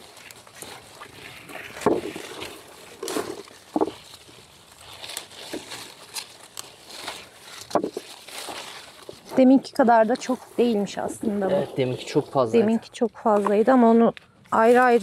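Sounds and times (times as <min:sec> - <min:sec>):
foliage rustling as berries picked: 0:00.0 - 0:15.0.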